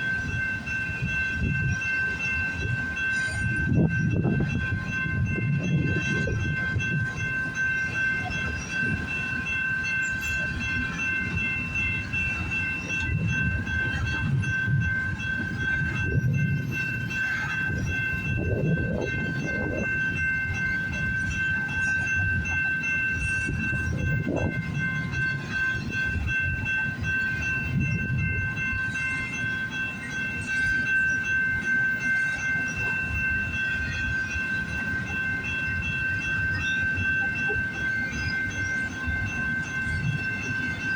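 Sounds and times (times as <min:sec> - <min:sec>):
freight train rumbling past: 0:00.0 - 0:40.9
high-pitched ringing tone: 0:00.0 - 0:40.9.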